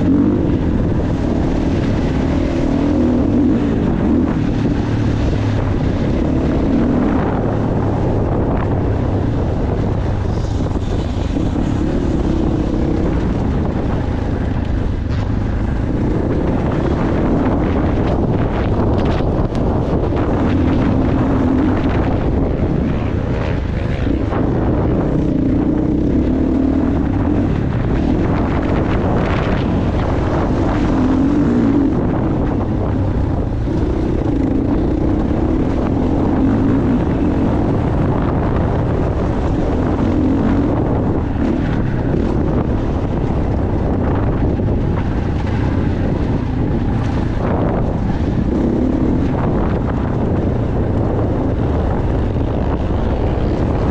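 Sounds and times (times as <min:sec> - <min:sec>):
motocross bike engine revving: 0:00.0 - 0:08.6, 0:09.5 - 0:53.9
wind buffeting microphone: 0:00.0 - 0:53.9.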